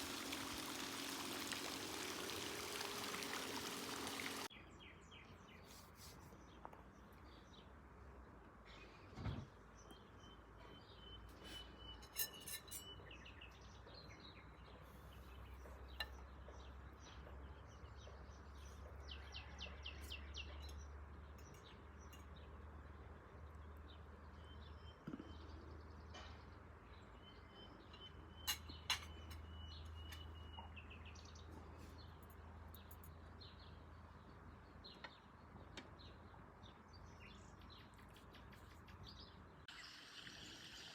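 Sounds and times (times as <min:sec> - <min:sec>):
small birds chirping and trilling: 0:00.0 - 0:07.8, 0:08.7 - 0:40.9.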